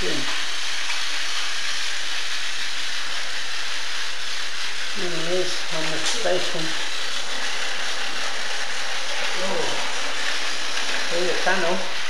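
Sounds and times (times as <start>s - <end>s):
toy trains whirring: 0.0s - 12.0s.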